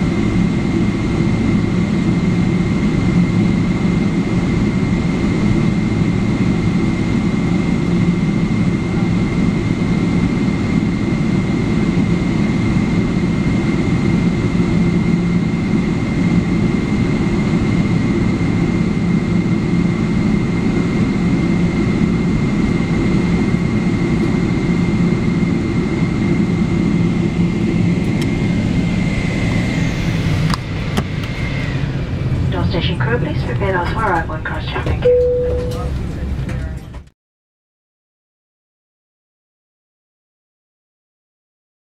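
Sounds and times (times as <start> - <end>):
high engine whine: 0.0 - 37.1
jet engines idling low rumble: 0.0 - 37.1.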